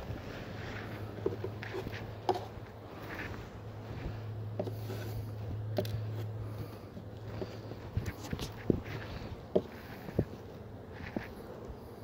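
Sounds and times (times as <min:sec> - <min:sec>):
clothing rustling against microphone: 0:00.0 - 0:11.5
steady low hum: 0:00.0 - 0:12.0.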